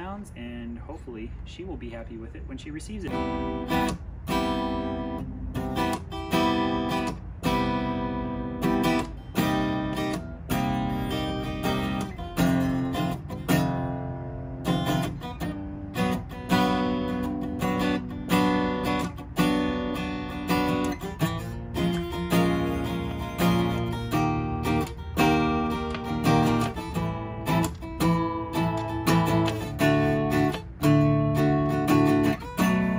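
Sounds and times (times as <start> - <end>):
acoustic guitar chords strummed: 3.1 - 32.9.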